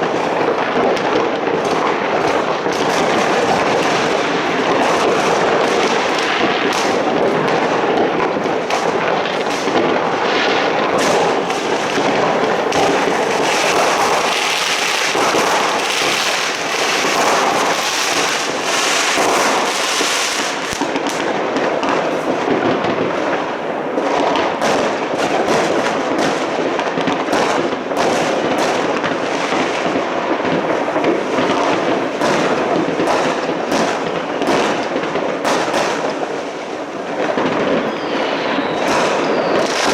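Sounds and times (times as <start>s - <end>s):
fireworks and firecrackers crackling: 0.0s - 39.9s.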